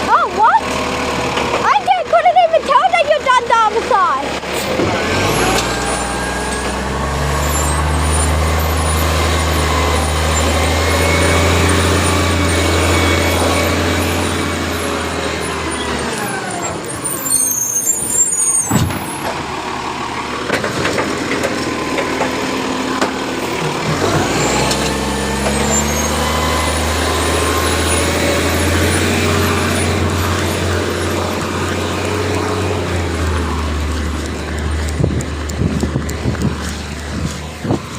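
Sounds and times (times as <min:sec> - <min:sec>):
diesel truck engine: 0:00.0 - 0:37.9.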